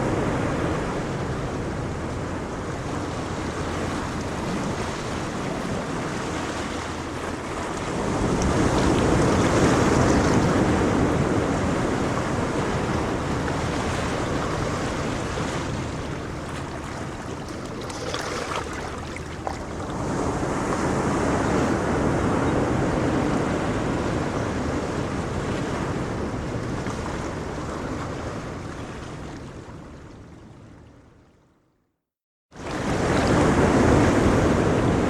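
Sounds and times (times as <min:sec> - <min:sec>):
ocean waves on shore: 0:00.0 - 0:31.2, 0:32.6 - 0:35.0.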